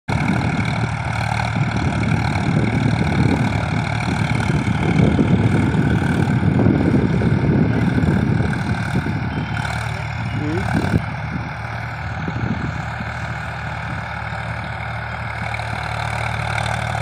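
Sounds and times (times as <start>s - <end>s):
tractor engine under load: 0.1s - 17.0s.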